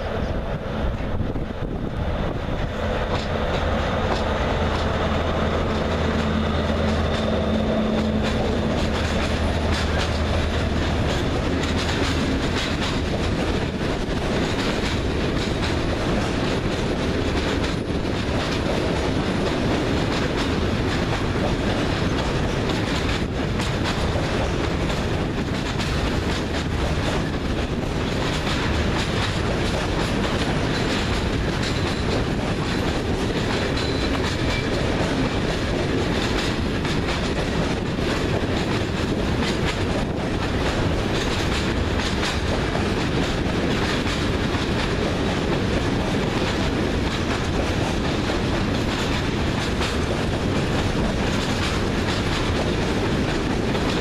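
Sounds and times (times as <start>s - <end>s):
diesel locomotive engine droning: 0.0s - 54.0s
train wagons rolling on rails: 0.0s - 54.0s
wheels clattering over rail joints: 2.6s - 54.0s.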